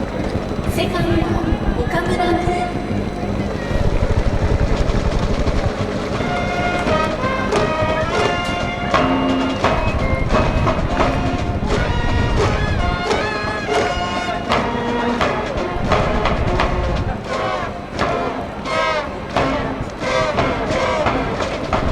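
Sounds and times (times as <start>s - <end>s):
cheering band playing: 0.0s - 21.9s
steady drum beat: 0.0s - 21.9s.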